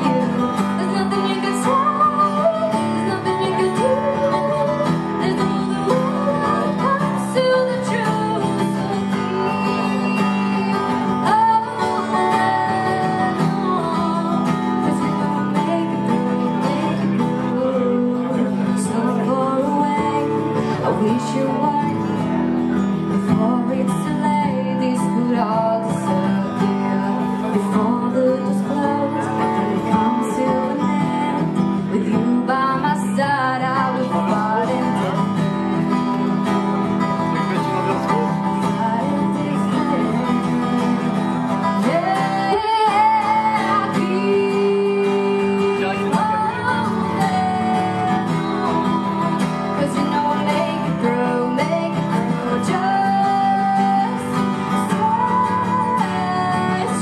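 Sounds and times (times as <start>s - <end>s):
woman singing: 0.0s - 36.8s, 38.3s - 57.0s
acoustic guitar playing: 0.0s - 57.0s.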